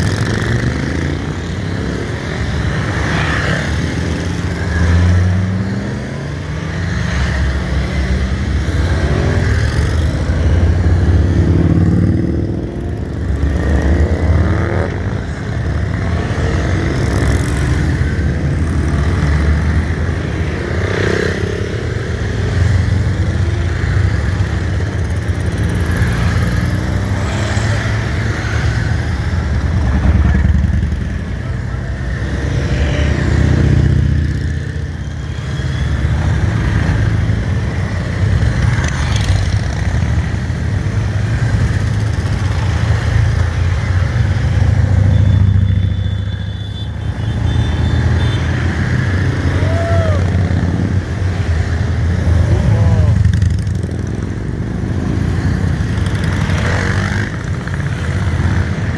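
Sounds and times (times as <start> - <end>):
motorcycles riding past: 0.0 - 58.9.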